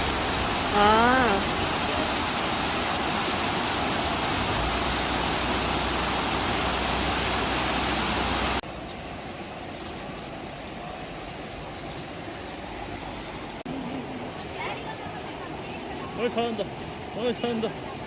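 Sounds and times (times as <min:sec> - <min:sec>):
mountain stream rushing: 0:00.0 - 0:09.7, 0:10.3 - 0:18.0.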